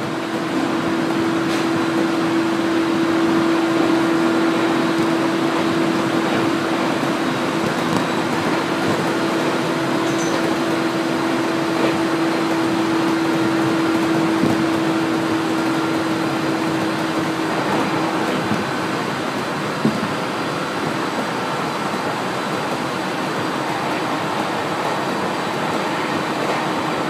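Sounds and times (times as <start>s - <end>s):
wheels on rail rushing: 0.0s - 27.0s.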